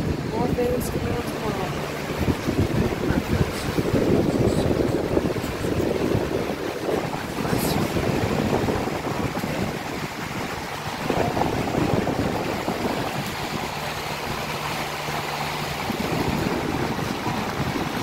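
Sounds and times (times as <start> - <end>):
electric fan air rush: 0.0 - 18.0
wind buffeting microphone: 0.0 - 18.0.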